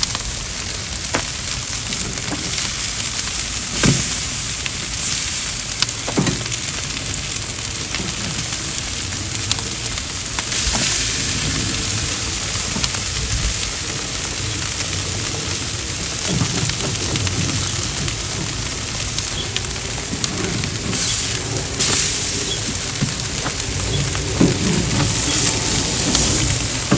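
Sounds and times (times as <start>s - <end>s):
charcoal grill sizzling: 0.0s - 26.9s
small pops and crackles: 0.0s - 26.9s.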